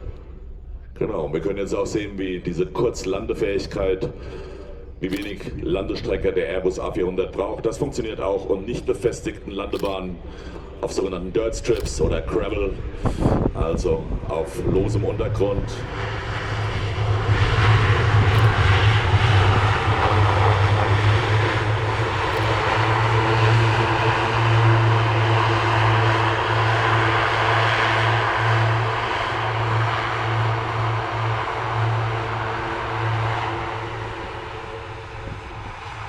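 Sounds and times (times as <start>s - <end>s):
aircraft engine roar: 0.0s - 36.0s
propeller drone: 0.0s - 36.0s.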